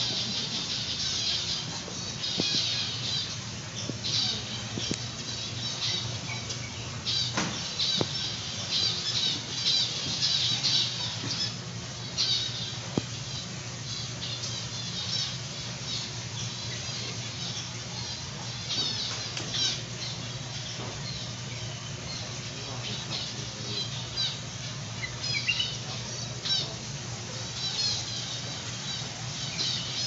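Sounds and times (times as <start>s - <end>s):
birds chirping and squawking: 0.0s - 30.0s
steady low hum: 0.0s - 30.0s.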